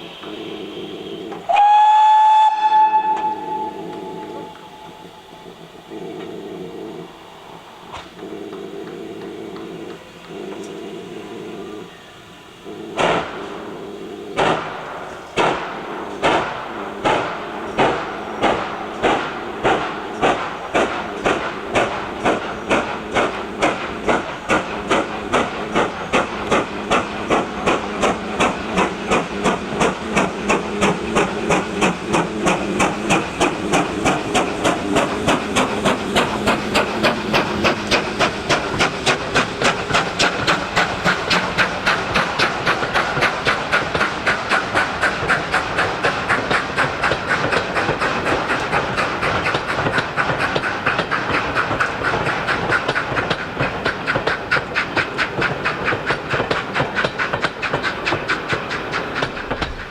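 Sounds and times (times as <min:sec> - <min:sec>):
steam hissing: 0:00.0 - 0:59.9
steam locomotive exhaust chuffs: 0:00.0 - 0:59.9.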